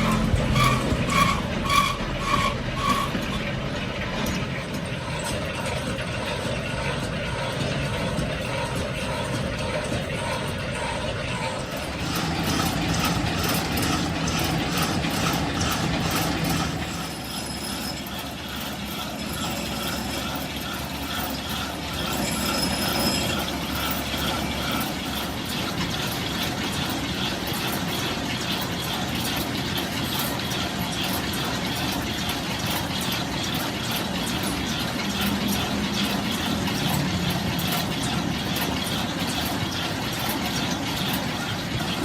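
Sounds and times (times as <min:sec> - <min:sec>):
machine tool droning: 0:00.0 - 0:07.8, 0:08.7 - 0:42.0
rhythmic mechanical ticking: 0:00.0 - 0:42.0.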